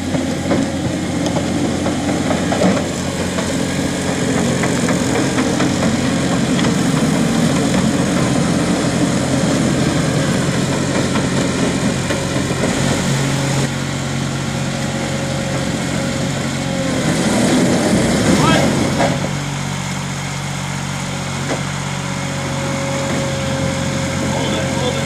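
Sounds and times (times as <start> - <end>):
tracked machine engine running: 0.0 - 25.0.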